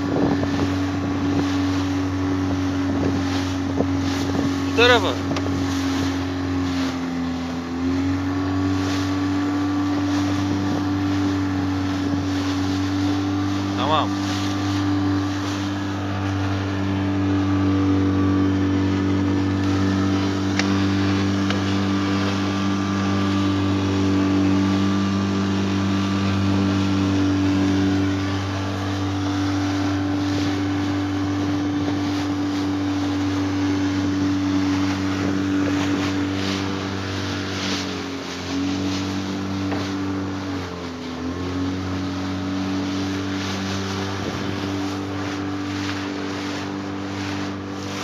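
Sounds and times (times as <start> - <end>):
motorboat engine droning: 0.0 - 48.0
water splashing against hull: 0.0 - 48.0.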